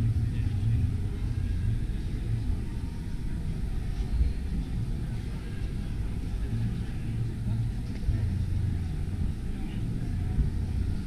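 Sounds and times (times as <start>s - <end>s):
faint background chatter: 0.0s - 11.0s
low steady rumble: 0.0s - 11.0s.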